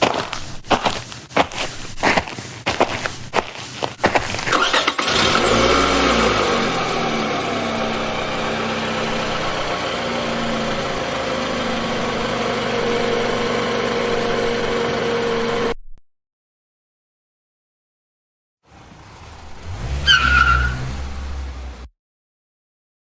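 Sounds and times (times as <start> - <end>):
car engine starting and running: 0.0 - 15.8, 18.7 - 21.9.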